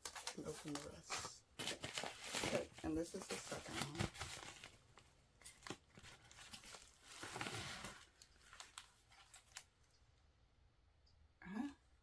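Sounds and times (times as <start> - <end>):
paper packaging rustling: 0.0 - 9.8.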